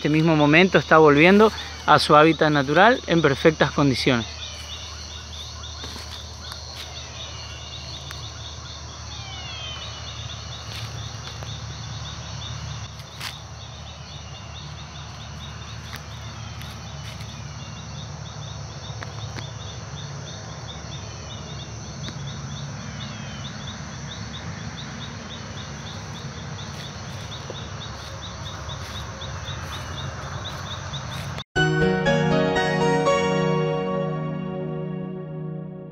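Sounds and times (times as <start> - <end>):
insects chirping: 0.0 - 31.4.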